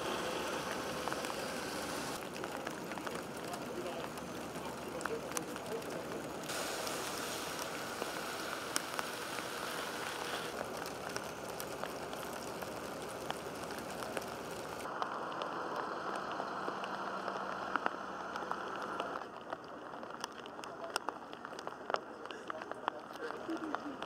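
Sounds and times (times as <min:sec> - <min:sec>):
rain pattering on hard surfaces: 0:00.0 - 0:24.0.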